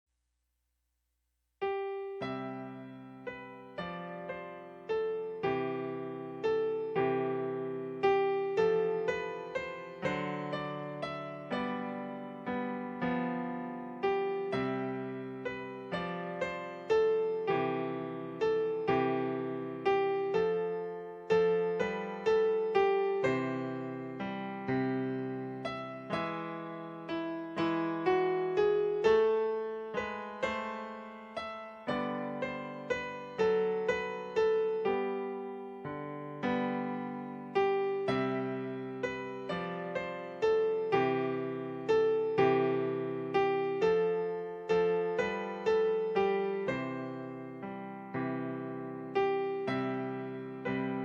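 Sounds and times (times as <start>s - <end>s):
soft piano chords: 1.6s - 51.0s.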